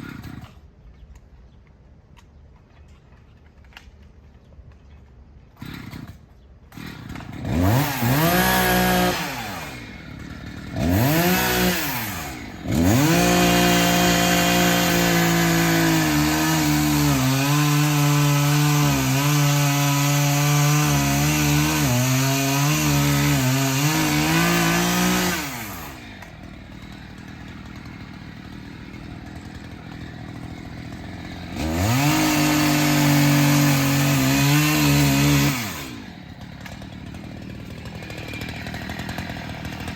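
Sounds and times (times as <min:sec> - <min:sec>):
chainsaw revving and cutting: 0:00.0 - 0:00.7, 0:05.5 - 0:39.9.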